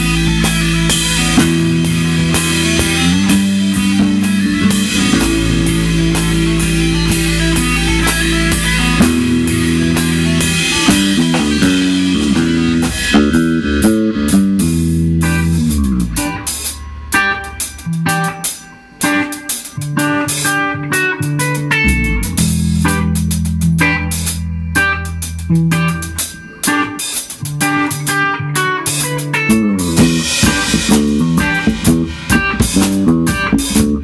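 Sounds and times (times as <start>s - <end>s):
bass guitar: 0.0s - 34.0s
drum kit: 0.0s - 34.0s
electric guitar: 0.0s - 34.0s.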